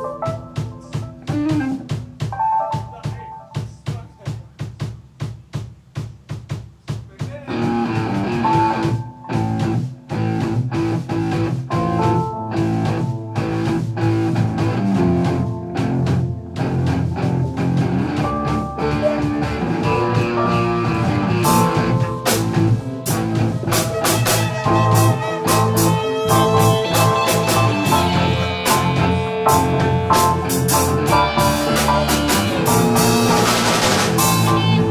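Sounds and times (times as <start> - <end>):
guitar playing: 0.0 - 3.8, 7.5 - 34.9
drum kit: 0.0 - 34.9.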